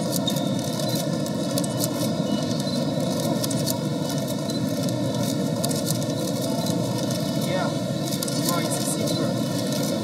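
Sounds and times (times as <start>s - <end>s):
exhibition hall background noise: 0.0s - 10.0s.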